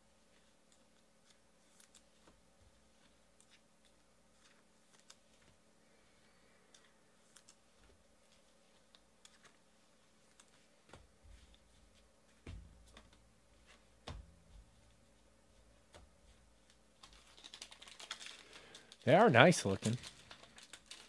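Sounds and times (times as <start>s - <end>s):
cards being handled: 0.3s - 5.6s, 6.7s - 14.9s, 15.8s - 21.0s.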